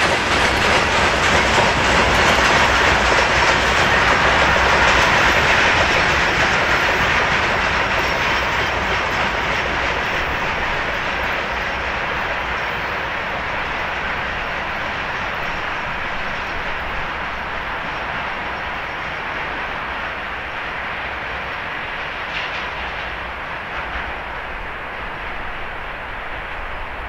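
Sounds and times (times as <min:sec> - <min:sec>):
train wheels on rail: 0:00.0 - 0:27.0.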